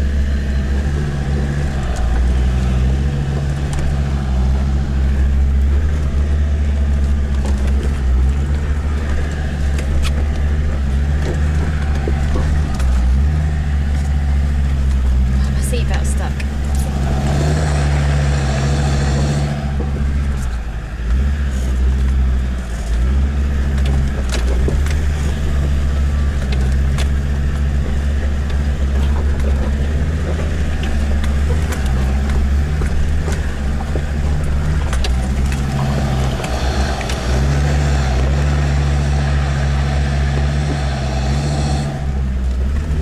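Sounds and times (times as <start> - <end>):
diesel engine running: 0.0 - 43.0
knocks and rattles: 0.0 - 43.0.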